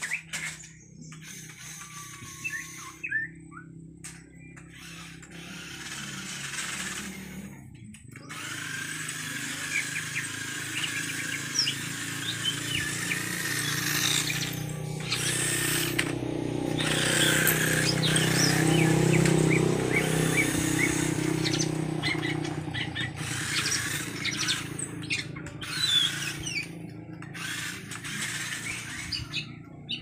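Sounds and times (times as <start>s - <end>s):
birds chirping: 0.0s - 30.0s
toy car electric motor whirring: 0.0s - 30.0s.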